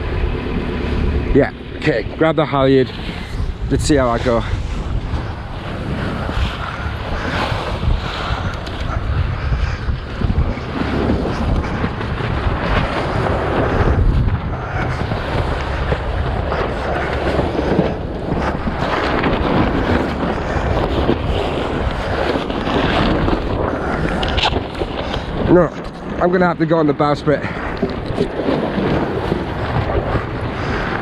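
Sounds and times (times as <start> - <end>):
strong wind buffeting microphone: 0.0 - 31.0
waves washing around hull: 0.0 - 31.0.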